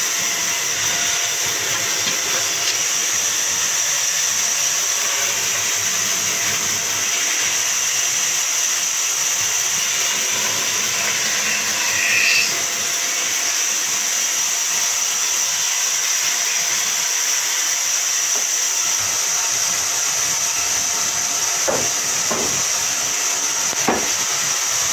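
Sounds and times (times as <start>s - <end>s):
band saw cutting wood: 0.0s - 24.9s.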